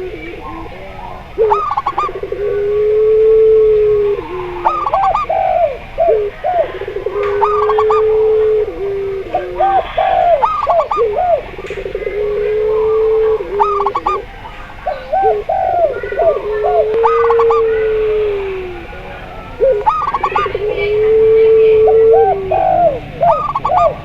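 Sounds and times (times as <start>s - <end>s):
long low dove coo: 0.0s - 24.0s
short looping dove coos: 0.0s - 24.0s.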